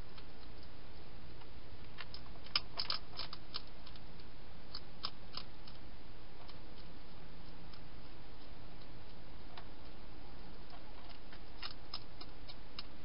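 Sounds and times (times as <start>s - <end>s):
steady hiss: 0.0s - 13.0s
hedgehog chewing dry food: 0.1s - 13.0s.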